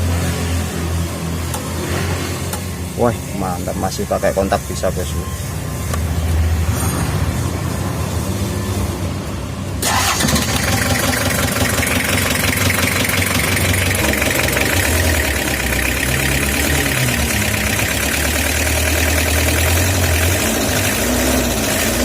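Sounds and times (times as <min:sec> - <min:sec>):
diesel engine starting and running: 0:00.0 - 0:22.0.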